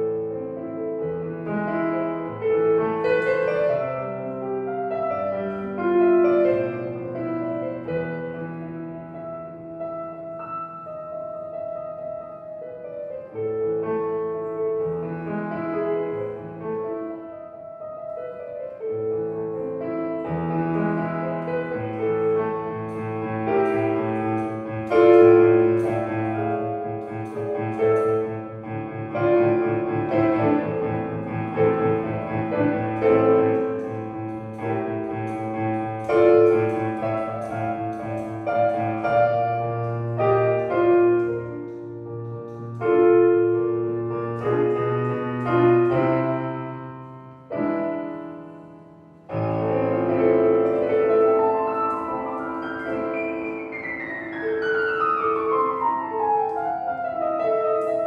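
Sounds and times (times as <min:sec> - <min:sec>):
solo piano chords: 0:00.0 - 0:58.0.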